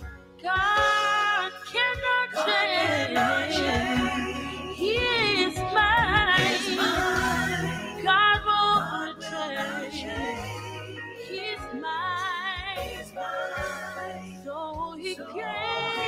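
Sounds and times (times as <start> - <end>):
person singing with vibrato: 0.5 - 16.0.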